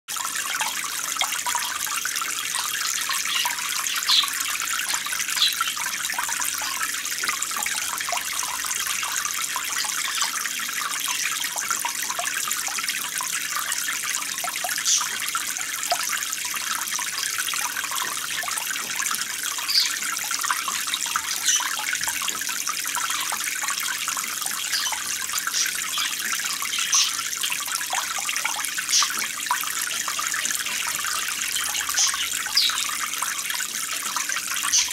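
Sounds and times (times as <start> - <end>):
running trickling water: 0.1 - 34.9.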